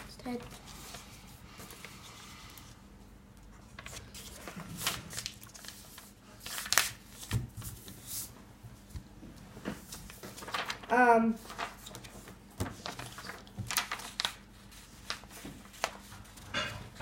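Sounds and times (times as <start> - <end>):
paper rustling and crinkling: 0.0 - 2.4, 3.6 - 8.3, 9.6 - 17.0.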